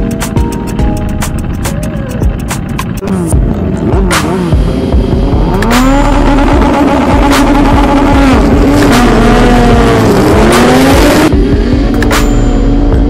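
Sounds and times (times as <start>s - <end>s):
motorcycle engine revving high: 1.2s - 13.0s.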